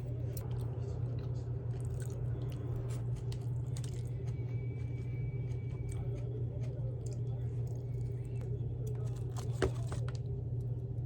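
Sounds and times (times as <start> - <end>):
person chewing food: 0.0 - 10.0
steady low hum: 0.0 - 11.0.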